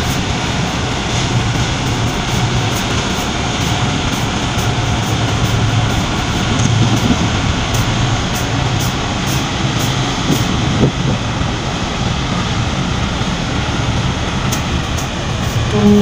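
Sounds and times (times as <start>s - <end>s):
ship engines rumbling: 0.0s - 16.0s
steady pitched tone: 0.0s - 16.0s
wind noise: 0.0s - 16.0s.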